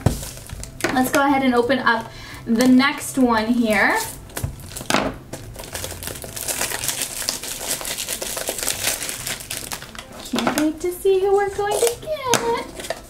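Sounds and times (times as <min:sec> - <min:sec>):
plastic shrink wrap crinkling: 0:00.0 - 0:03.0, 0:03.6 - 0:13.0.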